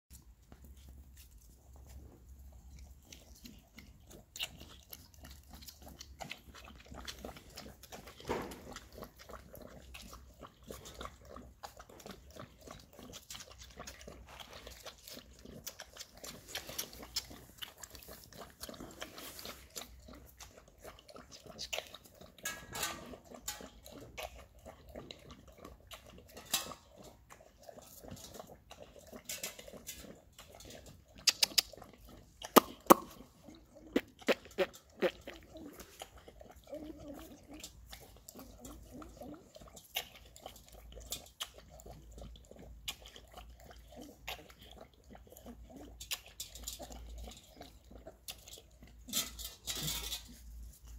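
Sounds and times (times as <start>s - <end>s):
chewing and smacking: 0.1s - 50.9s
dog eating from steel bowl: 0.1s - 50.9s.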